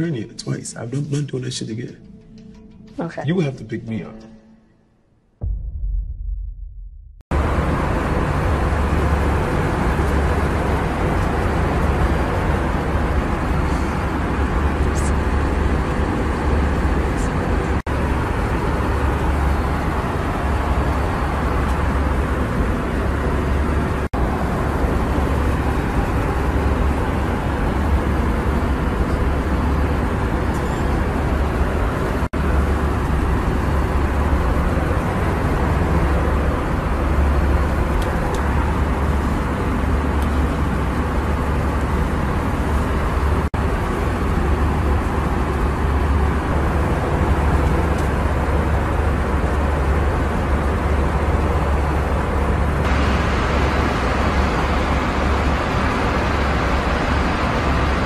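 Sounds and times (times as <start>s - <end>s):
vehicle cabin rumble: 5.4s - 58.0s.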